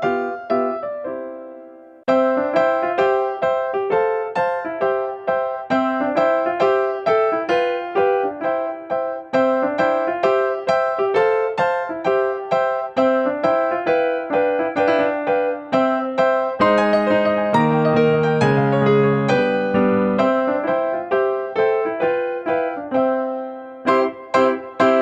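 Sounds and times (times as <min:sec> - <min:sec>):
bright keyboard melody: 0:00.0 - 0:25.0.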